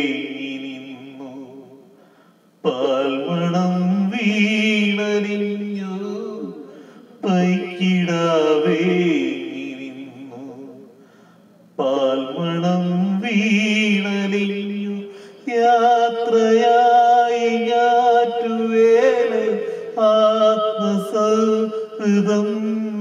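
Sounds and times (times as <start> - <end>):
man singing unaccompanied: 0.0 - 2.0, 2.6 - 11.0, 11.7 - 23.0.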